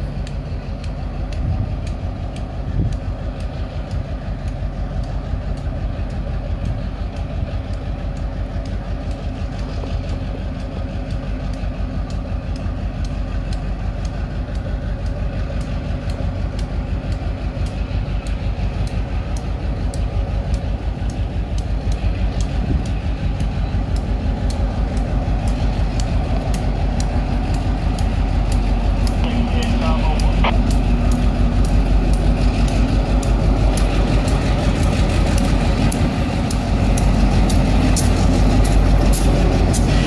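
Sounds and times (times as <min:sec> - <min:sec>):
diesel locomotive engine: 0:00.0 - 0:40.0
sharp clicks of train wheels: 0:00.0 - 0:40.0.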